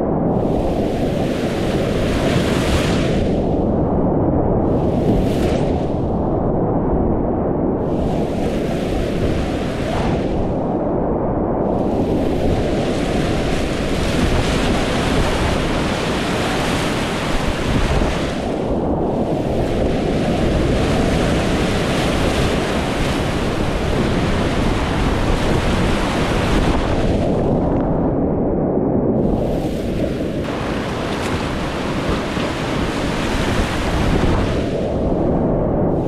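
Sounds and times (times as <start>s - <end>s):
wind on microphone: 0.0s - 36.0s.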